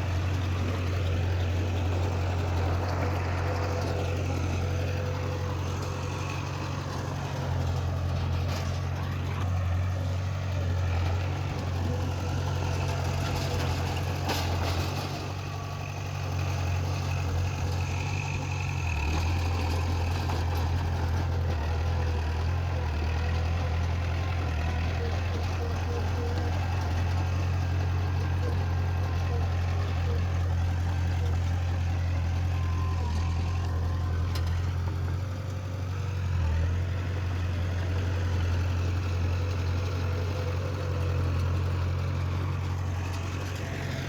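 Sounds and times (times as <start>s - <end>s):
heavy machine diesel engine running: 0.0s - 44.0s.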